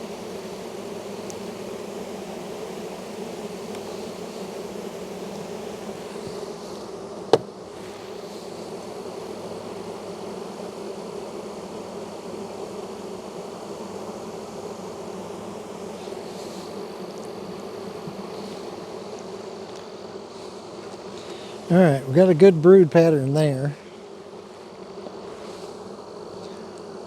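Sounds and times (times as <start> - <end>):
honey bee colony buzzing: 0.0 - 27.0.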